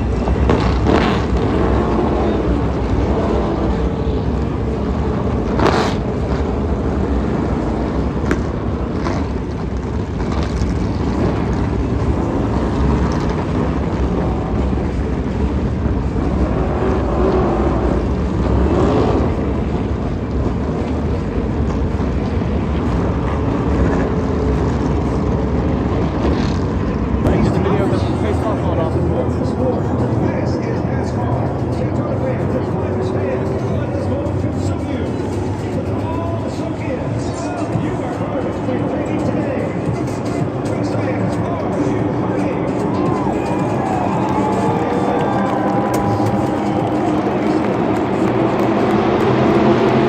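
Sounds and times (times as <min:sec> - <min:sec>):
race car engines roaring: 0:00.0 - 0:50.0.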